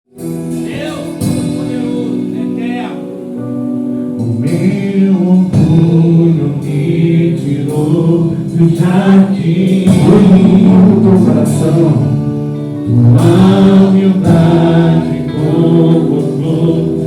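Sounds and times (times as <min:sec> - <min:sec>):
slow gospel worship music: 0:00.1 - 0:17.0.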